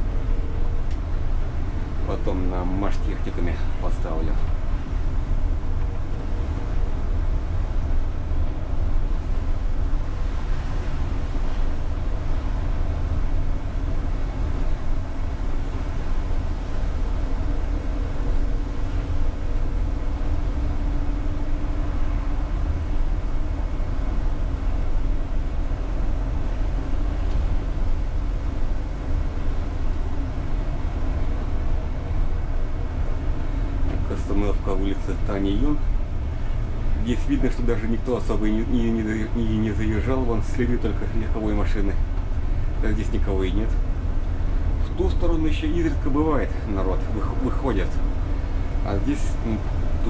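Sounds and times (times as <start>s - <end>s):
faint humming tones: 0.0s - 50.0s
low hum: 0.0s - 50.0s
trolleybus tyres rumbling: 0.0s - 50.0s.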